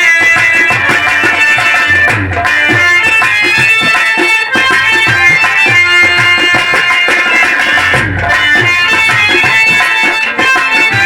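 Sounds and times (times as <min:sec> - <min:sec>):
harmonium melody: 0:00.0 - 0:11.0
quick drum strokes: 0:00.0 - 0:11.0.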